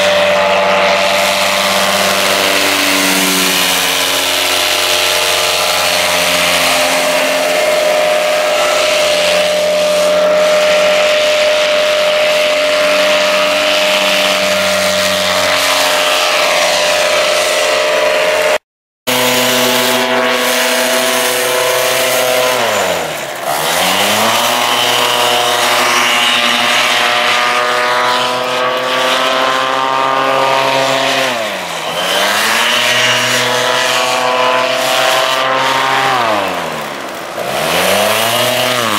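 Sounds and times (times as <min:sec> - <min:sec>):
paramotor engine buzzing drone: 0:00.0 - 0:38.9.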